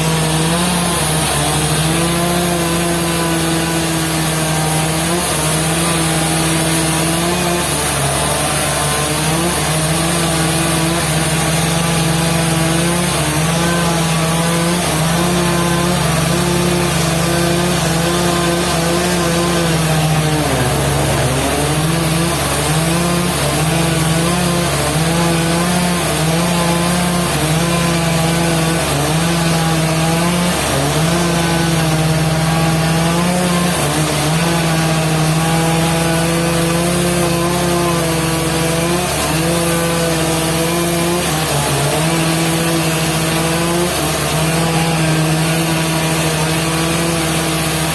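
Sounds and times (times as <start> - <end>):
saw cutting through wood: 0.0 - 47.9.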